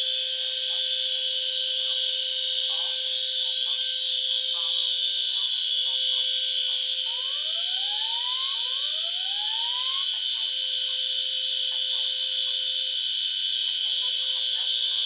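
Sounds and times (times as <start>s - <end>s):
fire alarm shrill tone: 0.0s - 15.0s
lower steady alarm tone: 0.0s - 15.0s
rising alarm sweeps: 0.0s - 15.0s.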